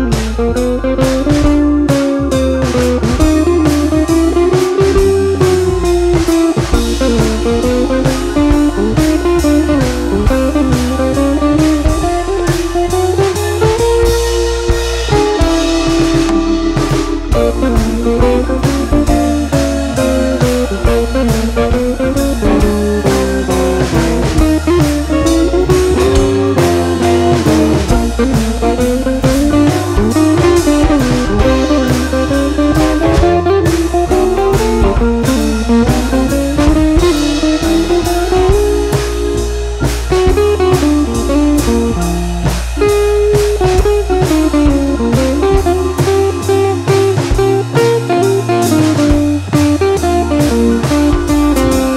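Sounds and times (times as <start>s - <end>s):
blues guitar melody: 0.0s - 51.9s
drum kit beat: 0.0s - 51.9s.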